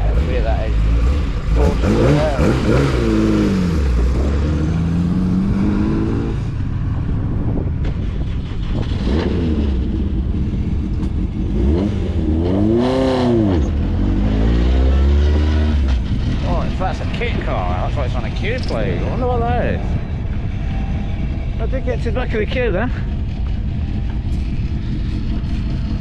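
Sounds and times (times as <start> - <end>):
car engines droning: 0.0 - 26.0
engine revving: 0.0 - 26.0.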